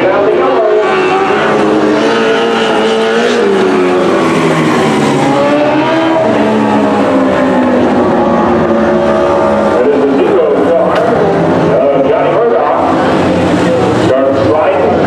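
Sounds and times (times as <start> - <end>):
sprint car engines racing: 0.0 - 15.0.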